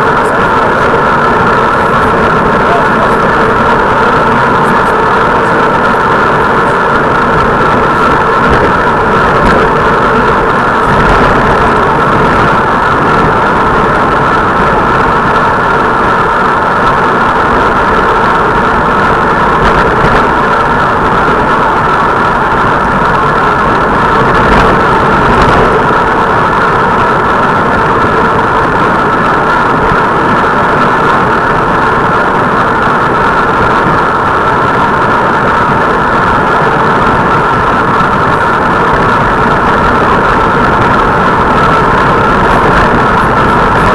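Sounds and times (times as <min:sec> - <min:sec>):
loud road noise: 0:00.0 - 0:43.9.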